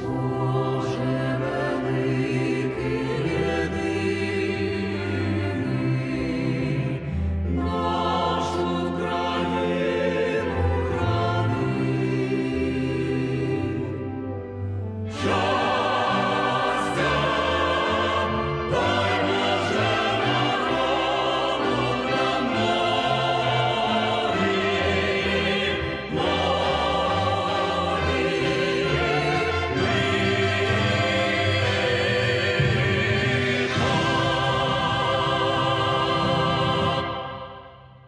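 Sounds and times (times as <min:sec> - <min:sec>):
choir singing with orchestra: 0:00.0 - 0:38.0.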